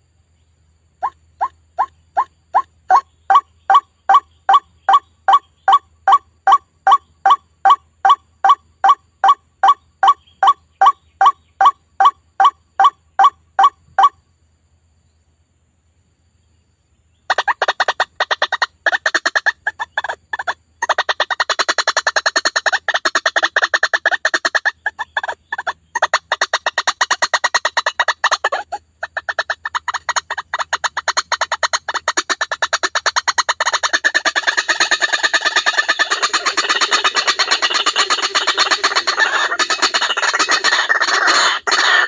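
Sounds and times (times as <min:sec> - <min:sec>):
waterhen calls: 0:01.0 - 0:14.2, 0:17.3 - 0:42.0.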